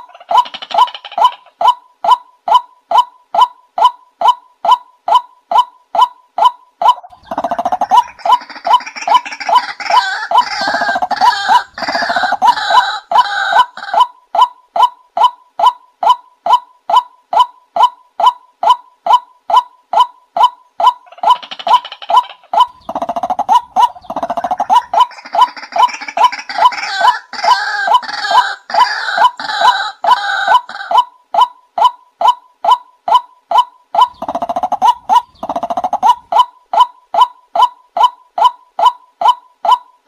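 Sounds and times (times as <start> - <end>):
harsh overlapping croaking calls: 0.0 - 40.0.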